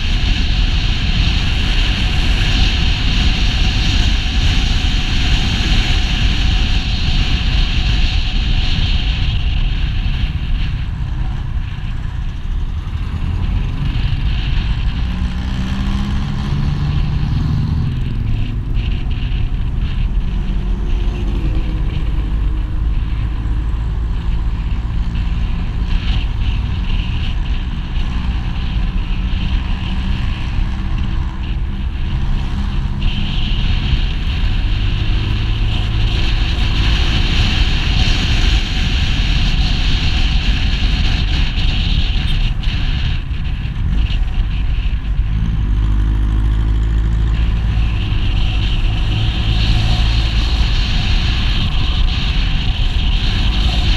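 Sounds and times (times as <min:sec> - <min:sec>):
motorcycle engine revving: 0:00.0 - 0:53.9
wind noise on microphone: 0:00.0 - 0:53.9.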